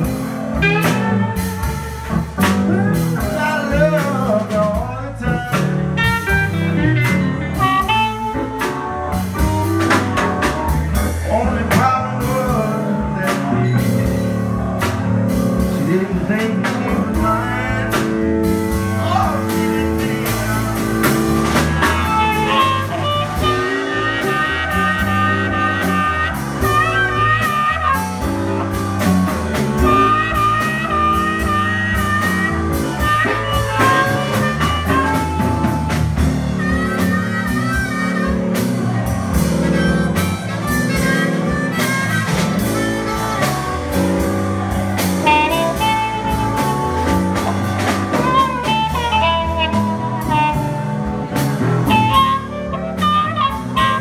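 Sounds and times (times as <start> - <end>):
harmonica lead: 0.0 - 15.1, 17.0 - 54.0
live blues band playing: 0.0 - 54.0.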